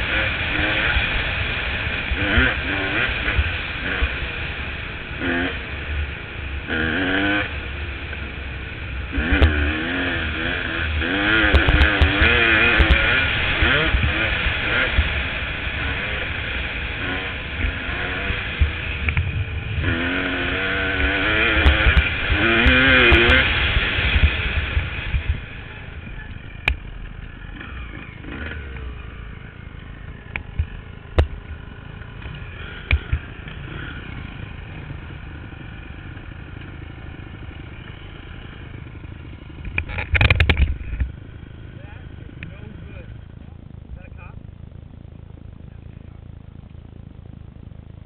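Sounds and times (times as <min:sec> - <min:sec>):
dirt bike engine revving: 0:00.0 - 0:46.2.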